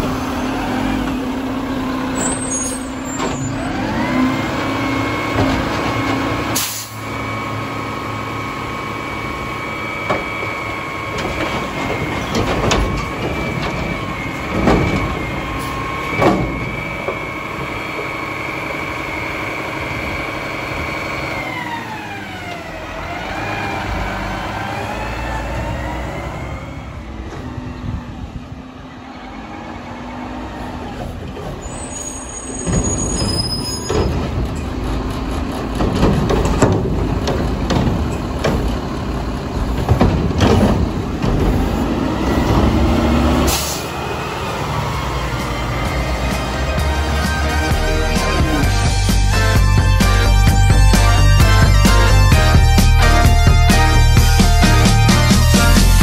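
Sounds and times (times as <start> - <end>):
garbage truck engine whine: 0.0 - 56.0.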